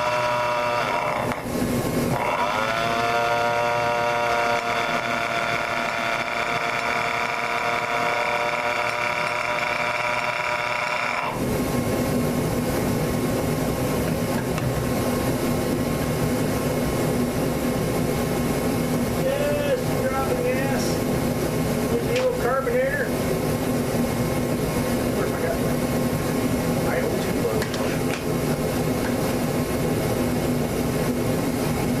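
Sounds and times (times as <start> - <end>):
rough engine drone: 0.0 - 32.0.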